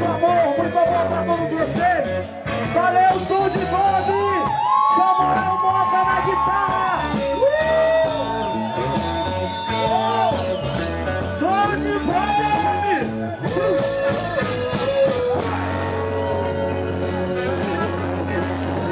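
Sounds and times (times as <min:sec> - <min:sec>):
lead melody line: 0:00.0 - 0:18.9
live reggae band: 0:00.0 - 0:18.9.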